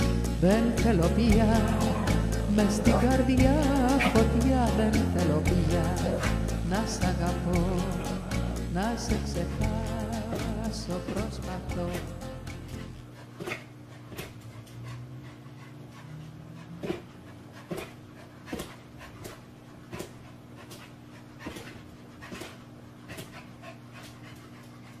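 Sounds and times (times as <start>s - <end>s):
dog panting: 0.0s - 25.0s.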